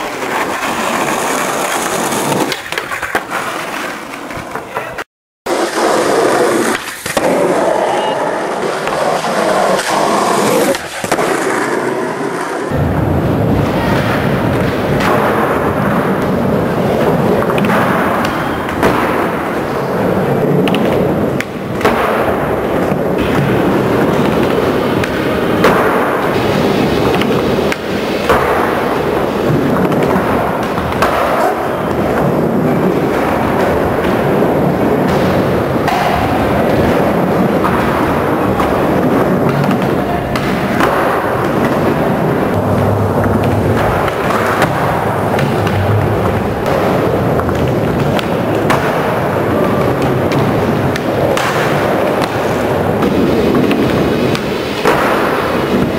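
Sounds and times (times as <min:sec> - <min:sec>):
skateboard clacking: 0:00.0 - 0:55.9
skateboard wheels rolling on concrete: 0:00.0 - 0:55.9.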